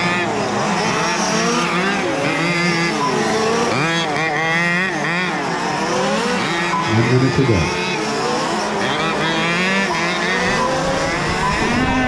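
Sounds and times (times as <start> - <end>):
rc car engines revving: 0.0 - 12.0.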